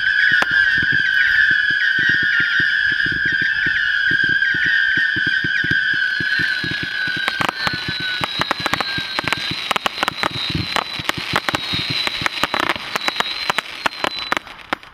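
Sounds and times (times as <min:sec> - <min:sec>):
crackling of firework stars: 0:00.0 - 0:14.9
firework cracks and pops: 0:00.0 - 0:14.9
high firework whistle: 0:00.0 - 0:14.9.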